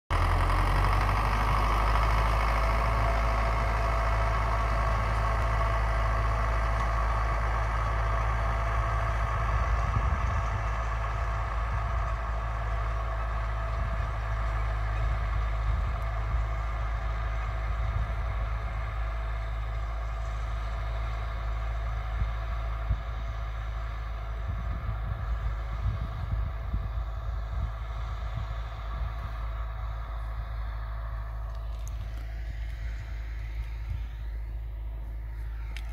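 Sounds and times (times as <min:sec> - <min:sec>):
tractor engine running: 0:00.1 - 0:35.9
steady whine: 0:01.4 - 0:35.9.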